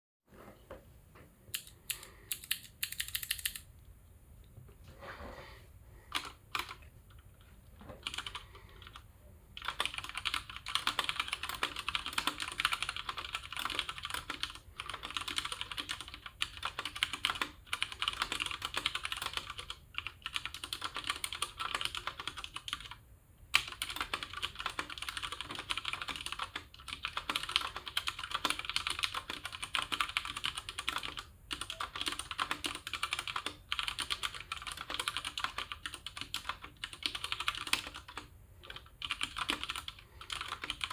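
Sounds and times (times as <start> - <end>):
mechanical keyboard typing: 1.5 - 3.7, 6.1 - 7.2, 8.0 - 9.0, 9.6 - 40.9.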